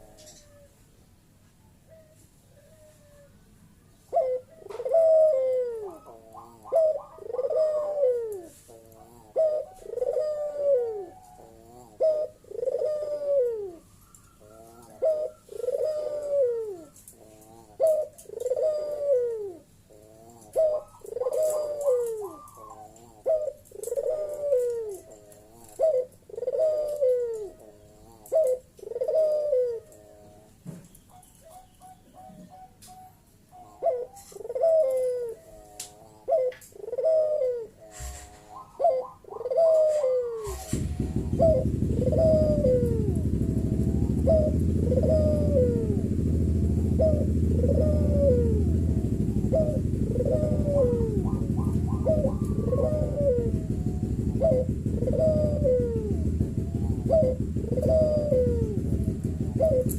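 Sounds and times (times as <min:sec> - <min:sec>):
dove cooing: 0:00.0 - 0:00.8, 0:01.8 - 0:59.9.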